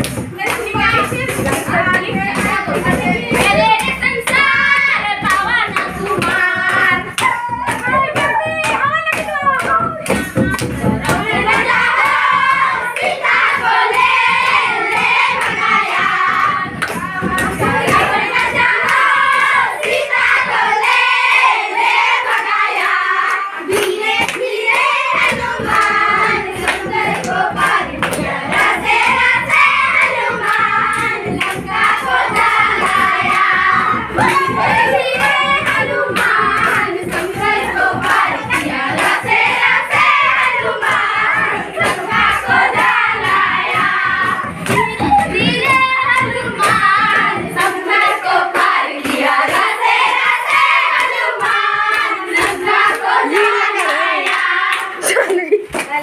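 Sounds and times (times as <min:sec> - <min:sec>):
hand drum beating: 0:00.0 - 0:20.9, 0:23.7 - 0:54.4
girls singing together: 0:00.0 - 0:56.0
hand clapping: 0:00.0 - 0:56.0.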